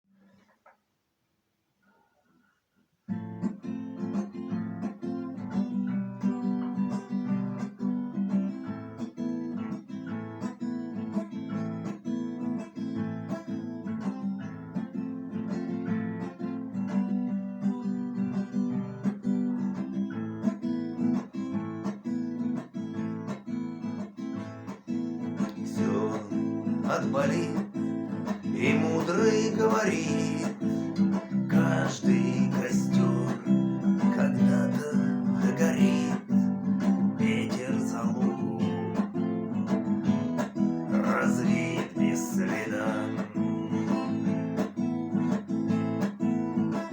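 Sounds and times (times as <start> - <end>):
acoustic guitar strumming: 3.1 - 46.9.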